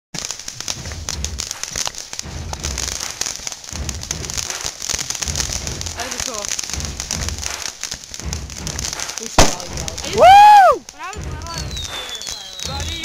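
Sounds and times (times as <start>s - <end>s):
firework crackling hiss: 0.2s - 13.0s
low rumble: 0.5s - 12.0s.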